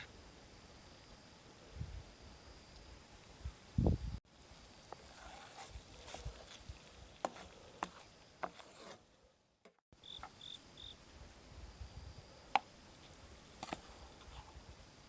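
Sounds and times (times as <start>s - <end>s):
cricket chirps: 0.0s - 8.4s, 10.0s - 15.0s.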